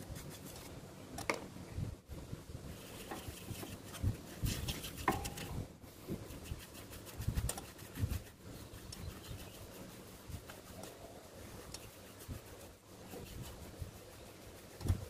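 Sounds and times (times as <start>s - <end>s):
paintbrush rubbing and dabbing: 0.0s - 0.8s, 2.6s - 15.0s.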